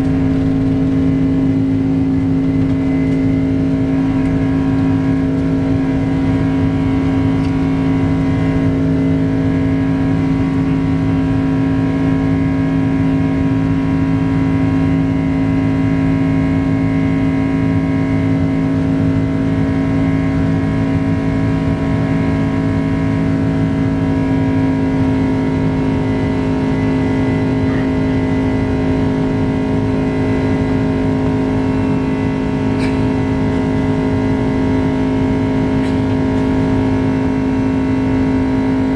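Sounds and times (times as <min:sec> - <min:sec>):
jet engines drone in cabin: 0:00.0 - 0:38.9.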